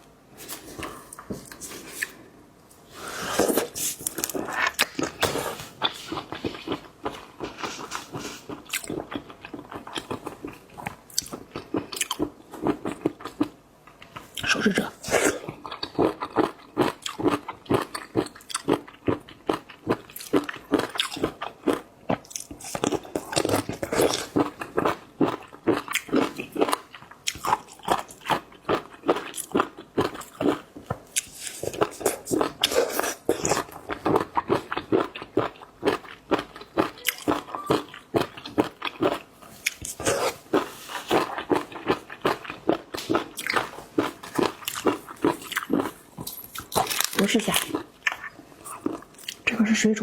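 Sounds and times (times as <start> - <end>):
wet chewing and crunching: 3.4 - 49.5.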